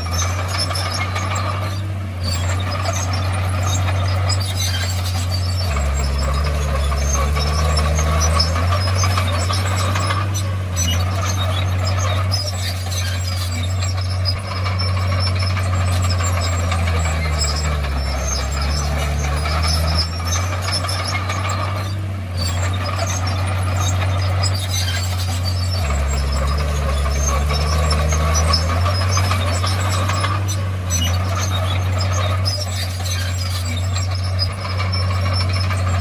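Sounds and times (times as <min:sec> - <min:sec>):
bulldozer diesel engine running: 0:00.0 - 0:36.0
light clatter: 0:00.0 - 0:36.0.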